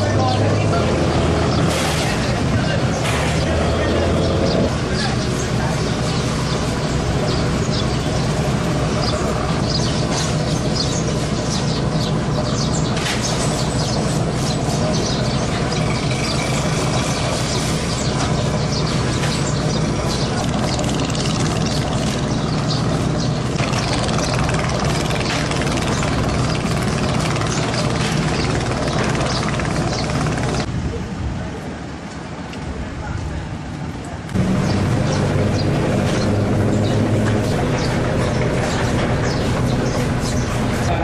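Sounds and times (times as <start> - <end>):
boat diesel engine humming: 0.0 - 30.7, 34.3 - 41.0.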